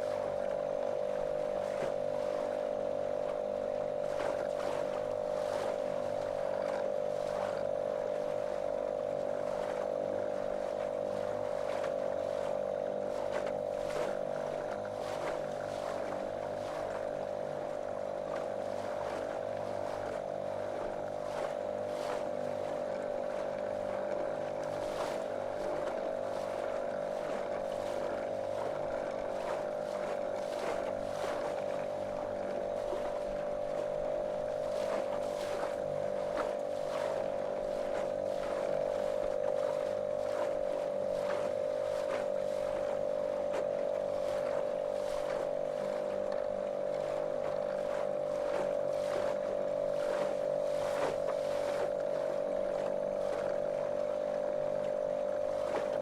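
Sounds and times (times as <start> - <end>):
motorboat motor running: 0.0 - 56.0
water splashing against hull: 0.0 - 56.0.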